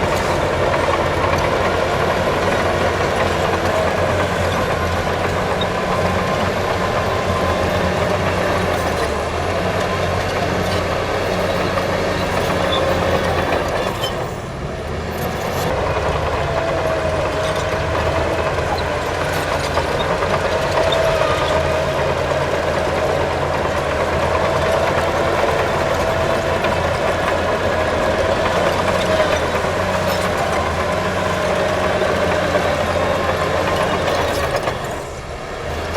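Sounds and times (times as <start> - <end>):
heavy diesel machinery engine hum: 0.0 - 35.9.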